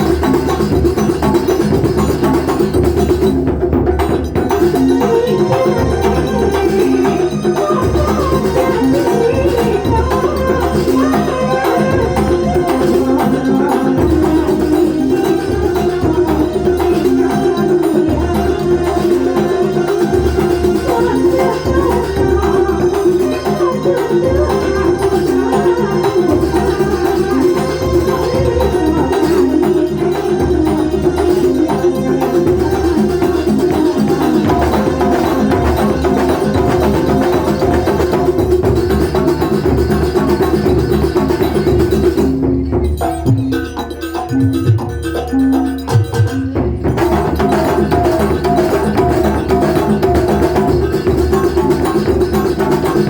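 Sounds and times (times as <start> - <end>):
deep drum beats: 0.0 - 53.0
traditional percussion music: 0.0 - 53.0.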